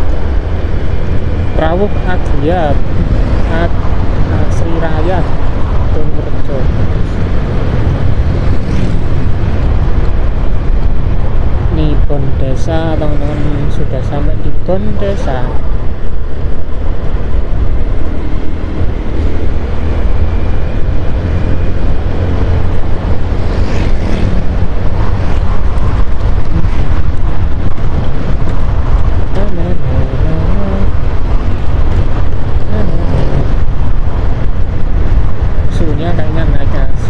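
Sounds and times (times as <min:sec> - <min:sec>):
road noise: 0:00.0 - 0:37.0
wind rumble: 0:00.0 - 0:37.0.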